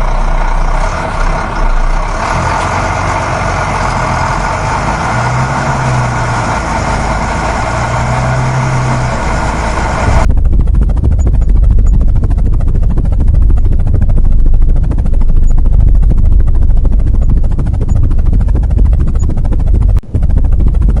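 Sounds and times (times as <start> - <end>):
cartoon engine rumble: 0.0 - 21.0.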